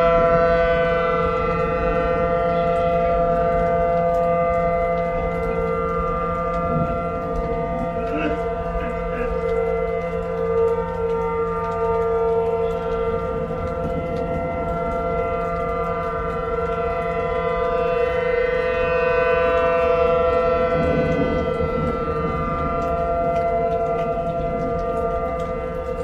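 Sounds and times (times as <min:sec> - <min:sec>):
higher sliding siren tone: 0:00.0 - 0:26.0
warning siren steady tone: 0:00.0 - 0:26.0.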